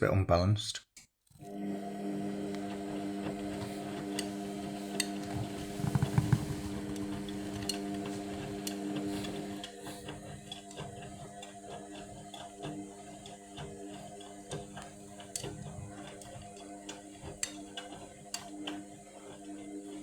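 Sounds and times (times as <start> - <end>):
washing machine motor humming: 1.4 - 20.0.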